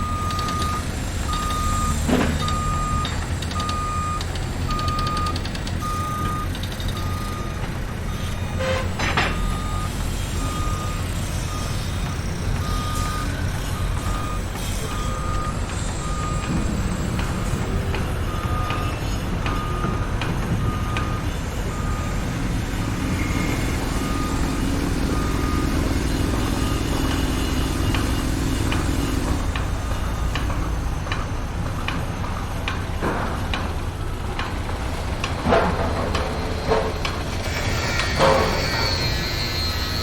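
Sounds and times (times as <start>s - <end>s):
reversing alarm beeping: 0.0s - 32.4s, 36.7s - 40.0s
heavy vehicle engine rumble: 0.0s - 39.8s.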